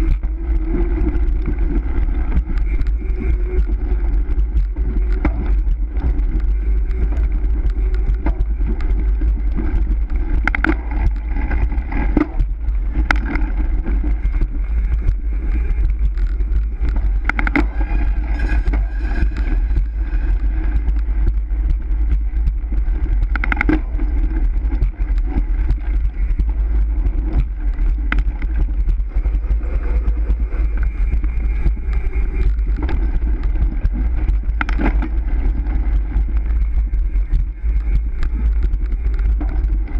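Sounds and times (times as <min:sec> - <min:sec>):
bike tyres rumbling on concrete: 0:00.0 - 0:39.9
wind rushing over microphone: 0:00.0 - 0:39.9.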